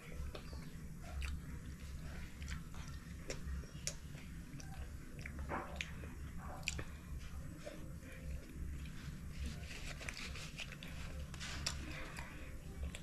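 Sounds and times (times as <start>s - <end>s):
child chewing wet food: 0.0s - 13.0s
low steady hum: 0.0s - 13.0s.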